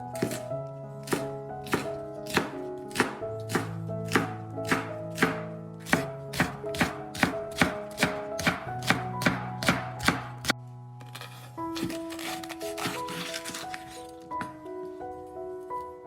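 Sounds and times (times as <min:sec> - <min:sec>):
background music with held chords: 0:00.0 - 0:16.0
chopping on a cutting board: 0:00.2 - 0:00.4, 0:01.0 - 0:10.6, 0:11.2 - 0:14.5.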